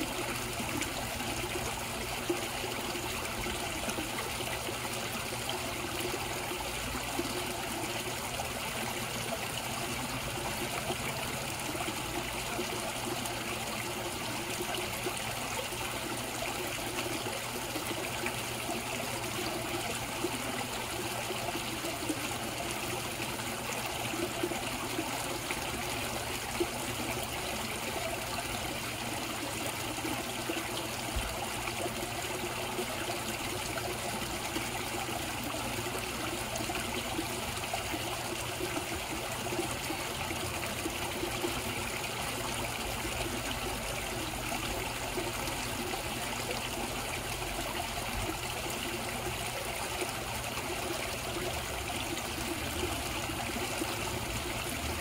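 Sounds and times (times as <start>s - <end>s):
pond water trickling and splashing: 0.0s - 55.0s.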